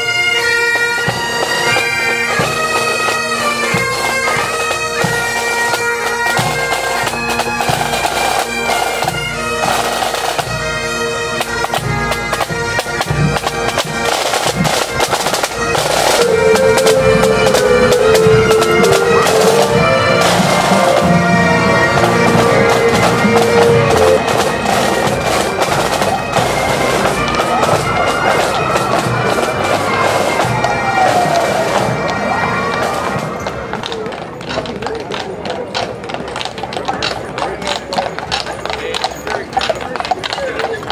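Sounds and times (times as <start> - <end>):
bagpipes with drones: 0.0 - 35.8.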